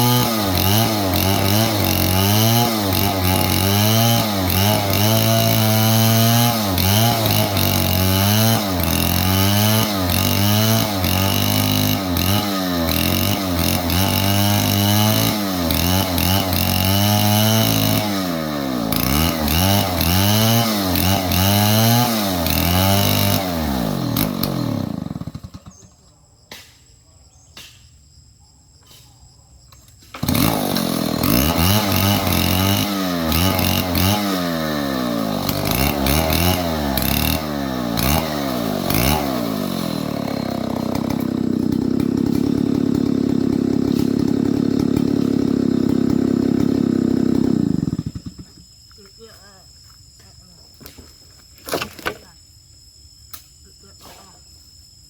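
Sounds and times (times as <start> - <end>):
chainsaw revving: 0.0 - 26.0, 30.1 - 48.7.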